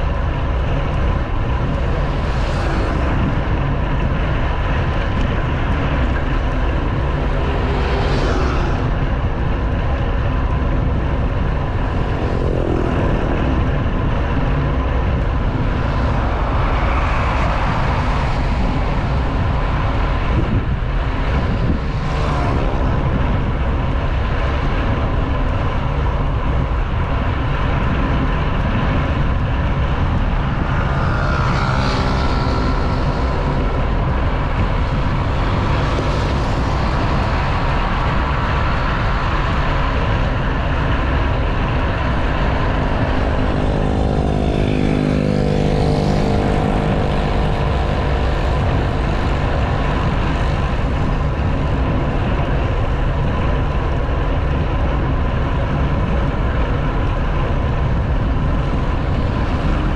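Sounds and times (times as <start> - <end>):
motor vehicles passing: 0.0 - 59.9
wind rushing over camera: 0.0 - 59.9.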